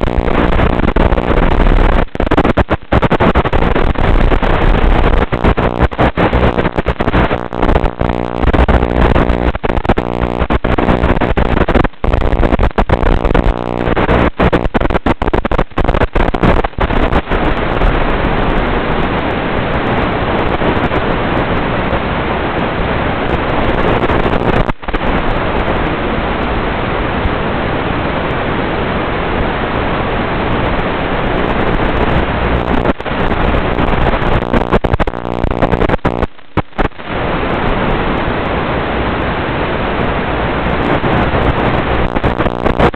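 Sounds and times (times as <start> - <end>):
rushing radio static with buzz: 0.0 - 26.9, 30.2 - 42.9.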